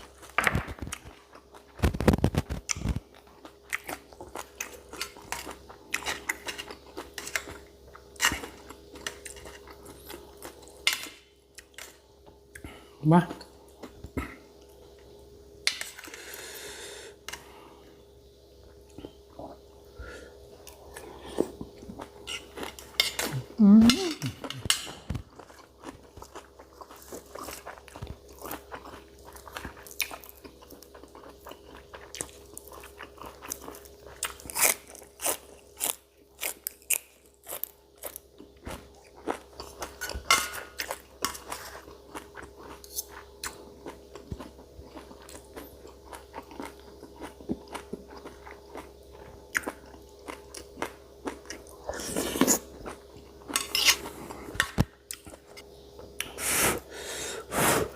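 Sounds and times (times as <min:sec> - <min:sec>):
person chewing crunchy food: 0:00.0 - 0:12.8, 0:18.6 - 0:57.8.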